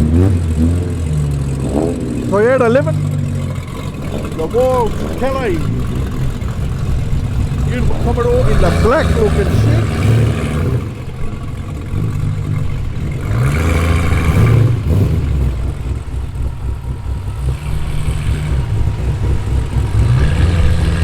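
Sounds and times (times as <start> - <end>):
car engine rumbling past: 0.0 - 21.0.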